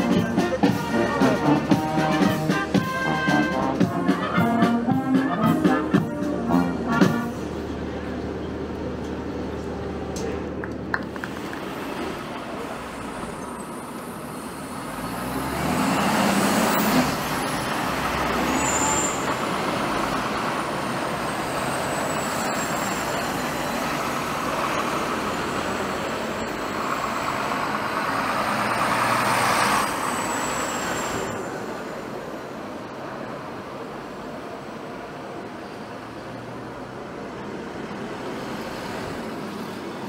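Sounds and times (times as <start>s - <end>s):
heavy vehicles driving past: 0.0s - 40.0s.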